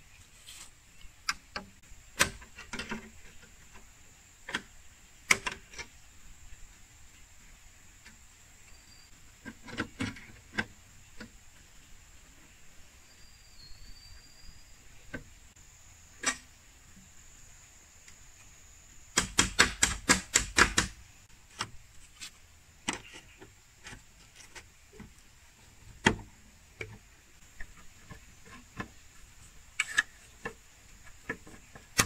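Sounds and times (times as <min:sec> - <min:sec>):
bamboo poles clicking and knocking: 0:00.5 - 0:12.6, 0:15.0 - 0:15.4, 0:16.1 - 0:16.7, 0:19.1 - 0:32.0.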